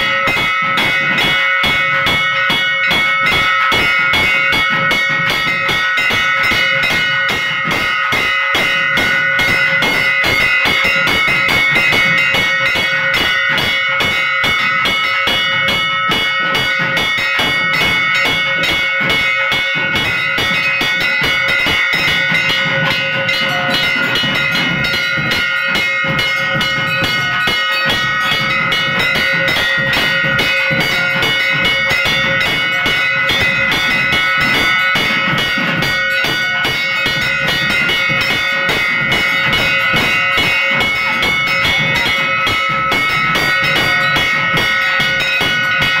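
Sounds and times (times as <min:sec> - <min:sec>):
bell ringing in fast strokes: 0:00.0 - 0:46.0
ritual music: 0:00.0 - 0:46.0.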